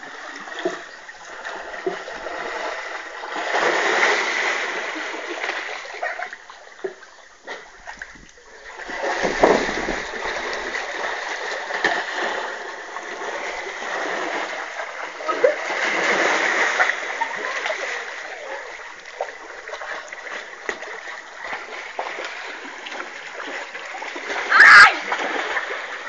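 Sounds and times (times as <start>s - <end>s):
water splashing in a pool: 0.0s - 26.0s.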